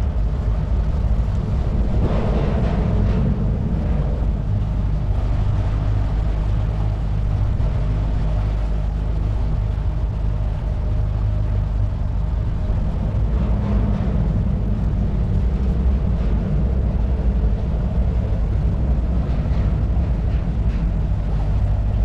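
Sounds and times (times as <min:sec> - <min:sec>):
outboard motor droning: 0:00.0 - 0:22.0
rushing water: 0:00.0 - 0:22.0.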